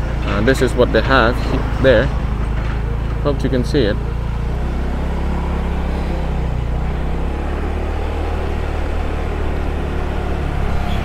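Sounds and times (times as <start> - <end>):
motorbike engine running: 0.0 - 11.0
road and air noise: 0.0 - 11.0.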